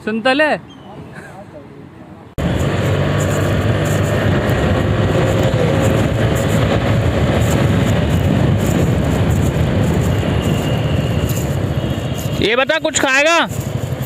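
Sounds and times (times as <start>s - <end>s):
scooter engine and road drone: 2.0s - 14.0s
wind rushing over microphone: 2.4s - 14.0s.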